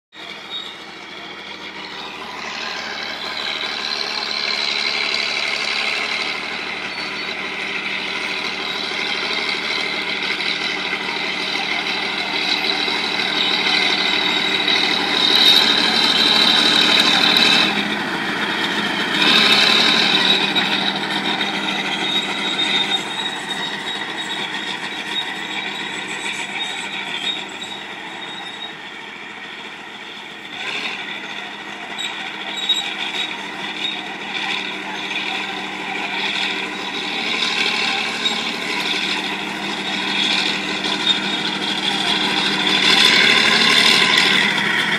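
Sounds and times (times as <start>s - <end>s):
bulldozer engine whining: 0.1s - 44.9s.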